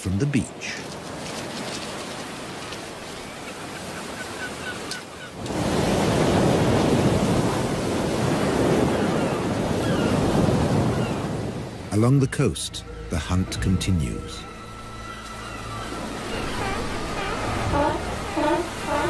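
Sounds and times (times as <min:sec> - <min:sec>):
surf washing on beach: 0:00.0 - 0:12.4, 0:14.0 - 0:19.0
wave breaking: 0:00.8 - 0:19.0.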